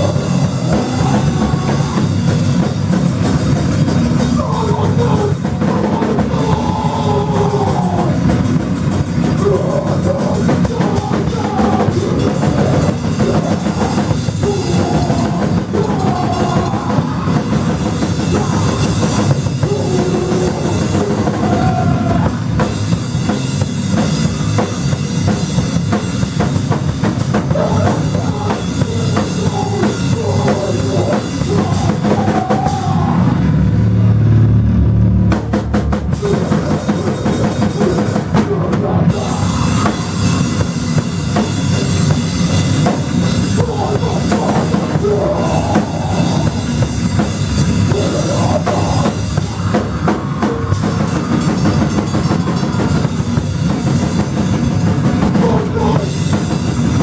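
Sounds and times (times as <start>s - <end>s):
bass drum and cymbals: 0.0s - 57.0s
heavy low bass: 0.0s - 57.0s
live rock band: 0.0s - 57.0s.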